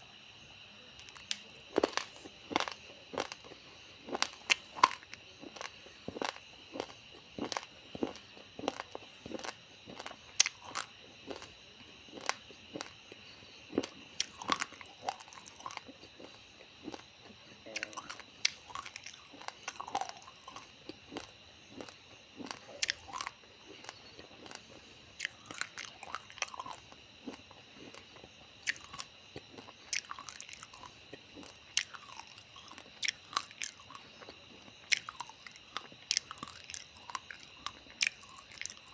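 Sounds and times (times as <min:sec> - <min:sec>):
chewing raw rice crunches: 0:00.9 - 0:38.9.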